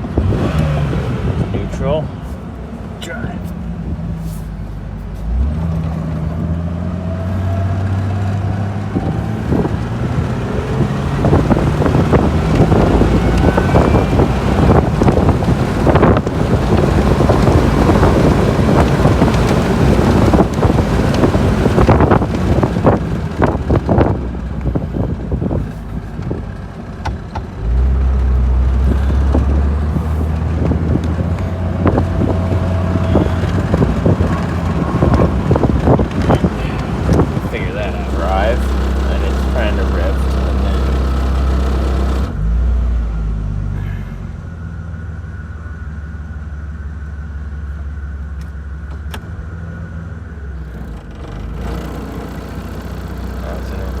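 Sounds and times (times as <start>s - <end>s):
car engine running: 0.0s - 54.0s
deep engine drone: 0.0s - 54.0s
engine whine: 0.0s - 54.0s
wind and road noise: 0.0s - 54.0s.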